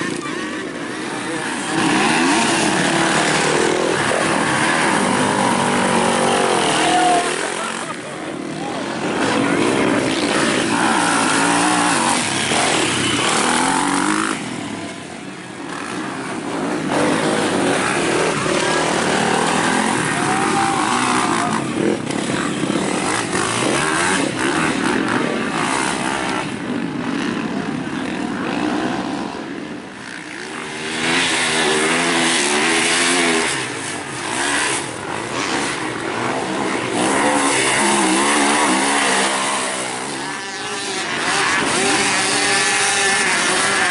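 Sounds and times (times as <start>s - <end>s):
dirt bikes racing: 0.0s - 43.9s.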